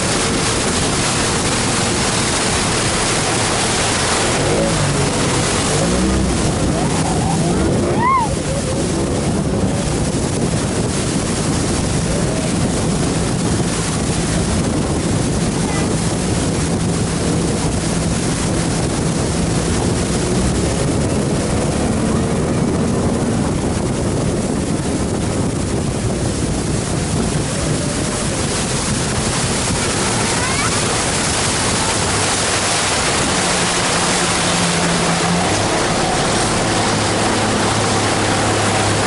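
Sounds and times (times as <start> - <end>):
outboard motor running: 0.0 - 39.0
water rushing past hull: 0.0 - 39.0
wind buffeting microphone: 0.0 - 39.0.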